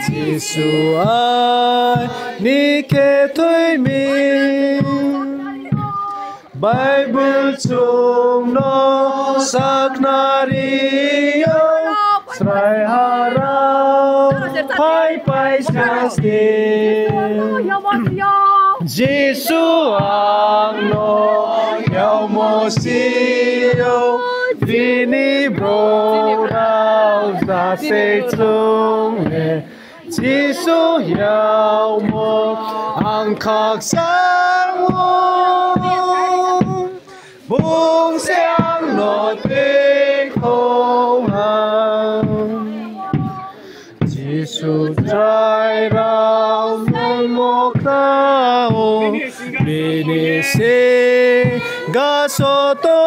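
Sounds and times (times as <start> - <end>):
group singing a hymn: 0.0 - 53.0.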